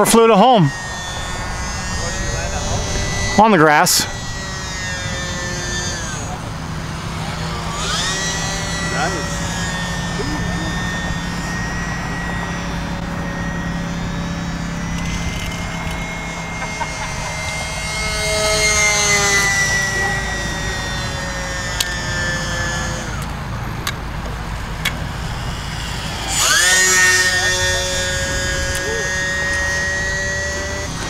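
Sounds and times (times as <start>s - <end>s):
model plane motor whining: 0.0s - 31.0s.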